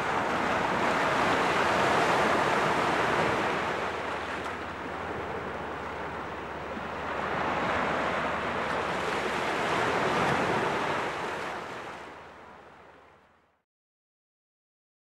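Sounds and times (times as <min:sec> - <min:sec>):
small waves breaking on shore: 0:00.0 - 0:13.3.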